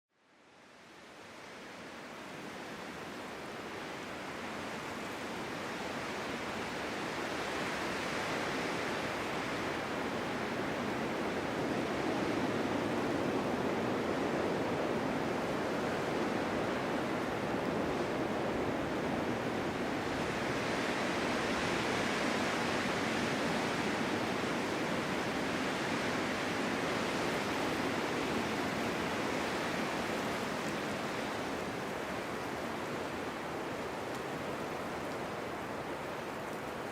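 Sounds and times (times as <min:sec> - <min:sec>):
snowstorm wind blowing hard: 0:00.9 - 0:36.9.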